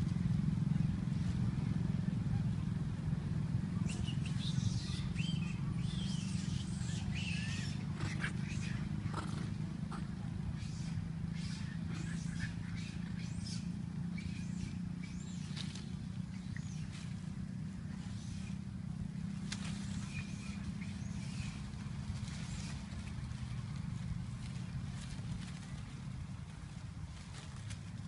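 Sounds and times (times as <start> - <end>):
leaves and branches rustling: 0.0 - 28.0
steady low hum: 0.0 - 28.0.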